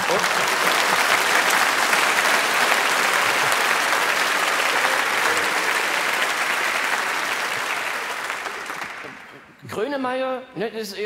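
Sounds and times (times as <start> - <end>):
studio audience applauding: 0.0 - 9.5.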